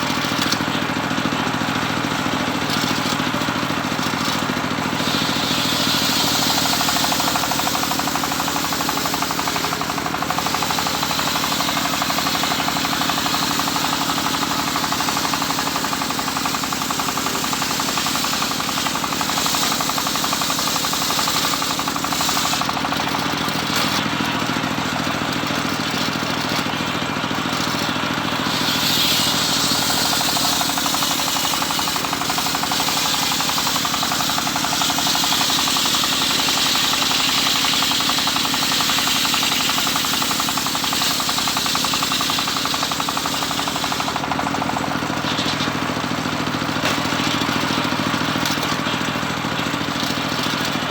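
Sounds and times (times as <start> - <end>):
circular saw cutting wood: 0.0 - 50.9.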